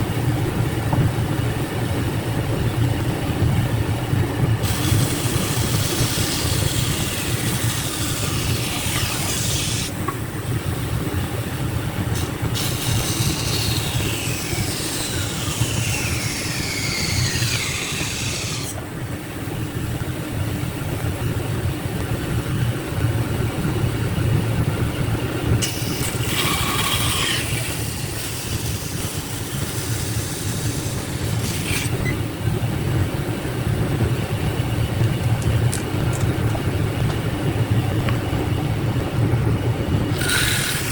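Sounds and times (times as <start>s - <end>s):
machine low hum: 0.0s - 40.9s.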